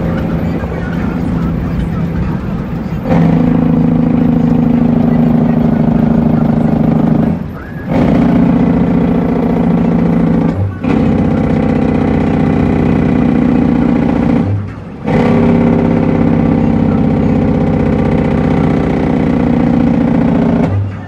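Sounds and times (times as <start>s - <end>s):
diesel truck engine pulling: 0.0s - 21.0s.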